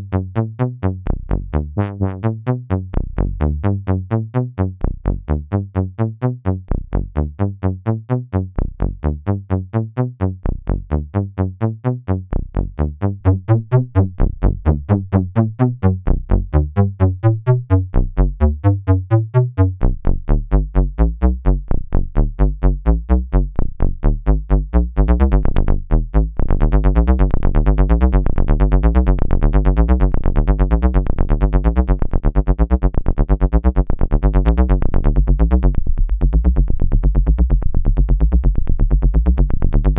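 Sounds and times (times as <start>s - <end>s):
synthesizer bass line: 0.0s - 39.9s.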